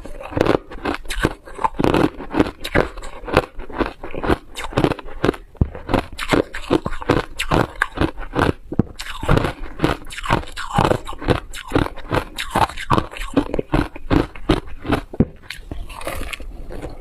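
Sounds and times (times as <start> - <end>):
person crunching ice: 0.0 - 17.0.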